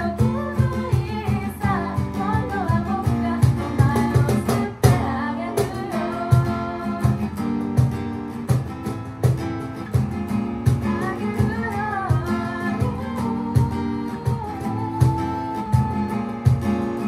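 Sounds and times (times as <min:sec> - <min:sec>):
woman singing: 0:00.0 - 0:07.8, 0:10.6 - 0:17.0
acoustic guitar strumming: 0:00.0 - 0:17.0
cajon beat: 0:00.0 - 0:17.0.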